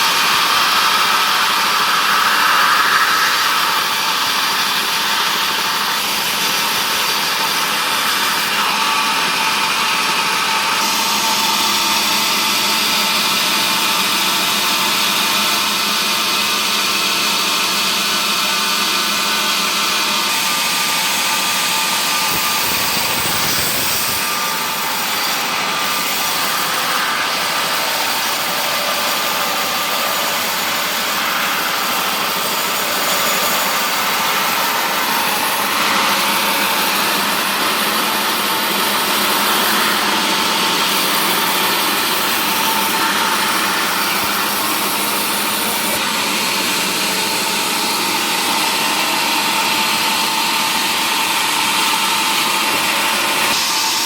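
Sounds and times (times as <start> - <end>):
woodworking machinery running: 0.0 - 54.0.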